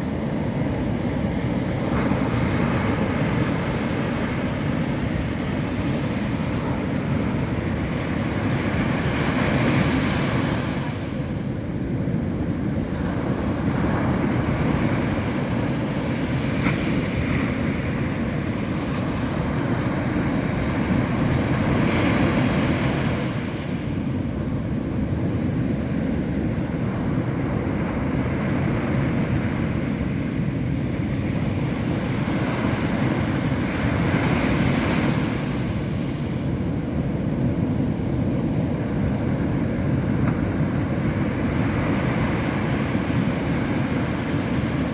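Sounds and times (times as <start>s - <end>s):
ocean surf roaring: 0.0s - 44.9s
waves breaking with a hiss: 0.0s - 44.9s.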